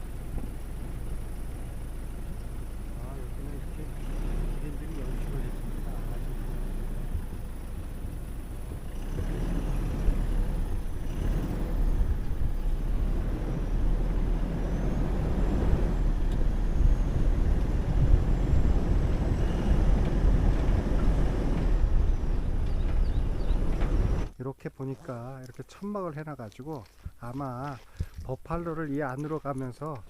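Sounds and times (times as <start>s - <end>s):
vehicle driving on rough track: 0.0s - 30.0s.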